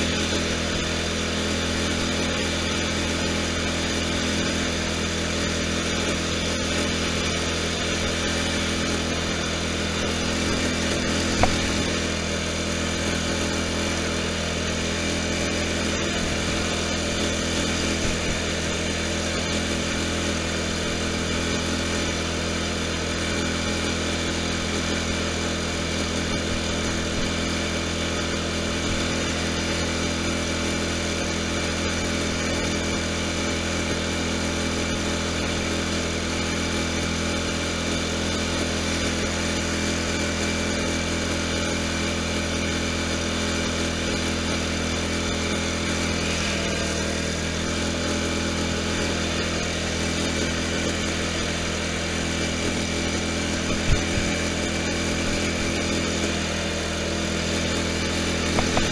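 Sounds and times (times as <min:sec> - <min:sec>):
lawn tractor engine running: 0:00.0 - 0:58.9.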